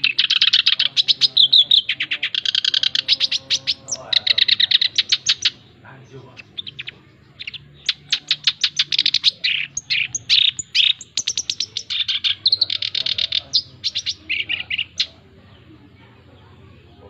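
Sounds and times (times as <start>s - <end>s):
reed warbler singing: 0.0s - 17.0s.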